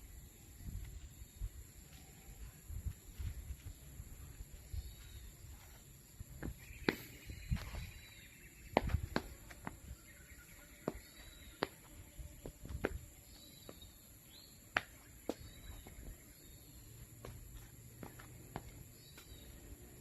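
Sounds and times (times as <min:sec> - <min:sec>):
faint bird chirps: 0:00.0 - 0:12.4, 0:13.1 - 0:17.8.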